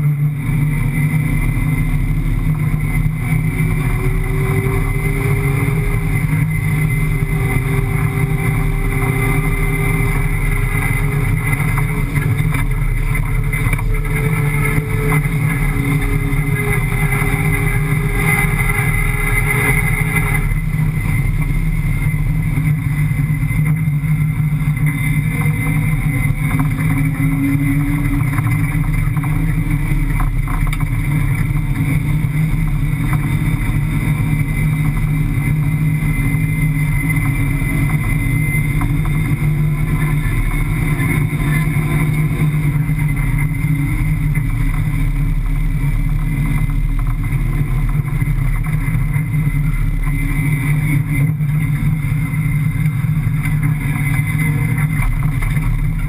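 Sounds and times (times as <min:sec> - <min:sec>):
car engine running at speed: 0:00.0 - 0:56.0.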